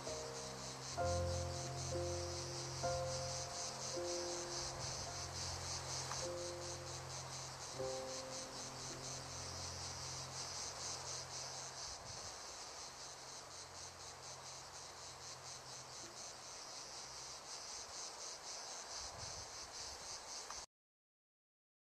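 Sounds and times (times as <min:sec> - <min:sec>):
crickets trilling: 0:00.0 - 0:20.7.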